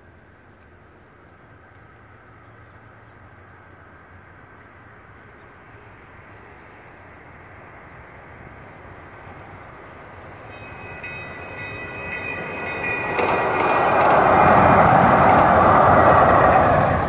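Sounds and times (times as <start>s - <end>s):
light rail train rumble: 0.0s - 17.0s.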